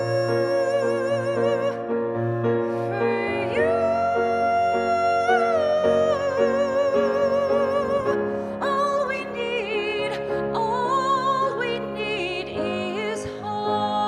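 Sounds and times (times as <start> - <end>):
woman singing with vibrato: 0.0 - 1.9, 2.7 - 14.0
piano accompaniment: 0.0 - 14.0.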